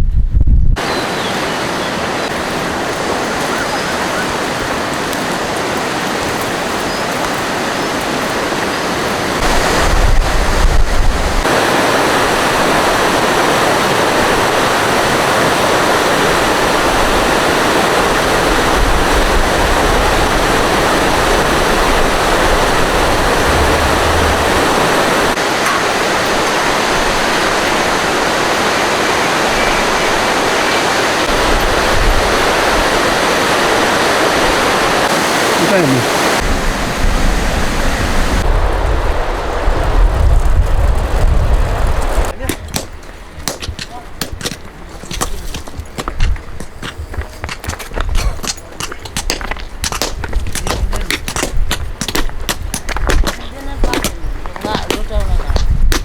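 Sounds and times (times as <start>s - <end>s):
wind buffeting microphone: 0.0s - 56.0s
rushing water: 0.8s - 56.0s.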